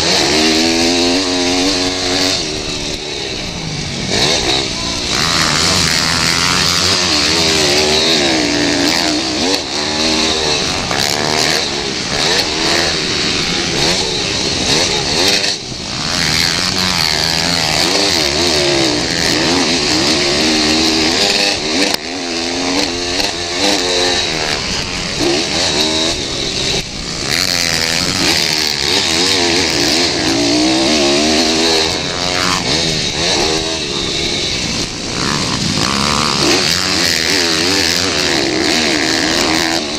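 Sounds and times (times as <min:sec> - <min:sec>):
pit bike engines revving: 0:00.0 - 0:39.9.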